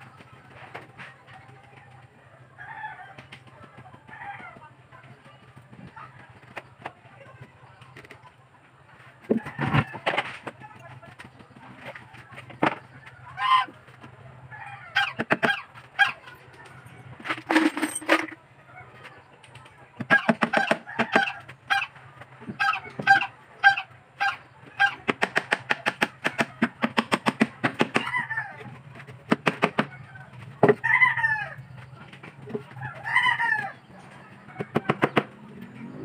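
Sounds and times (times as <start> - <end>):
chicken clucking: 0.0 - 17.5, 18.2 - 36.0.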